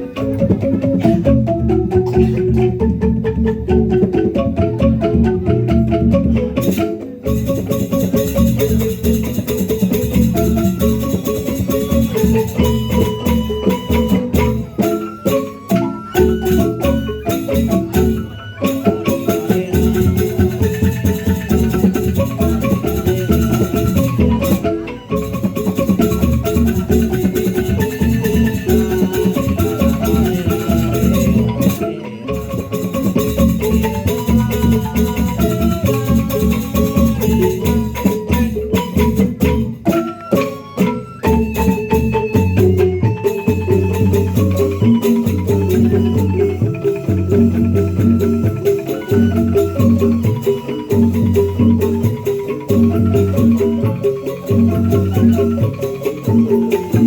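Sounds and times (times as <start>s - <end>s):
gamelan-style percussion music: 0.0s - 57.0s.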